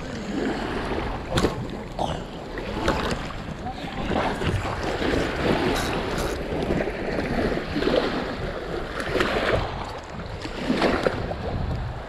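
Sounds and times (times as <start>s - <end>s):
waves washing against rocky shore: 0.0s - 12.0s
wind buffeting microphone: 0.0s - 12.0s.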